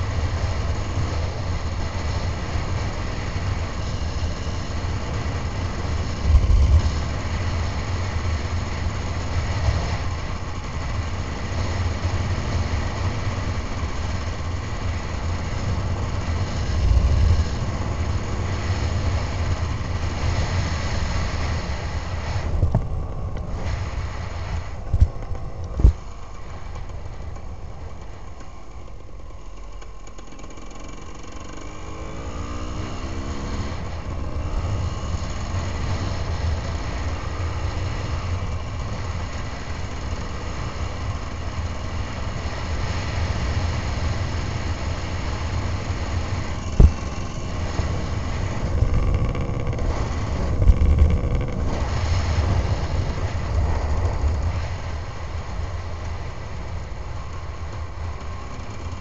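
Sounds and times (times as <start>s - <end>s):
motorcycle engine riding: 0.0s - 59.0s.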